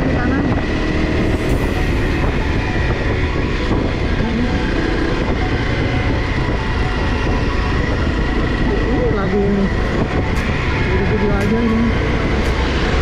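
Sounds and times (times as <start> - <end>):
motorcycle engine drone: 0.0 - 13.0
road noise: 0.0 - 13.0
wind noise: 0.0 - 13.0.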